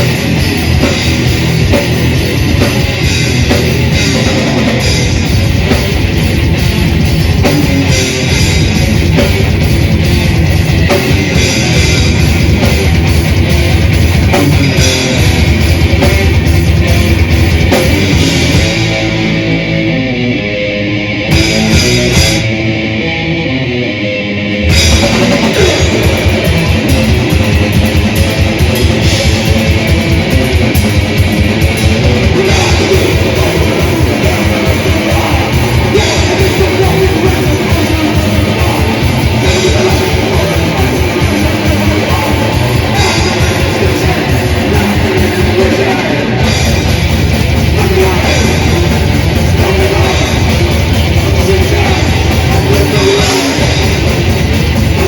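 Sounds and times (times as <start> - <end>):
distorted electric guitars: 0.0 - 55.0
metal band playing live: 0.0 - 55.0.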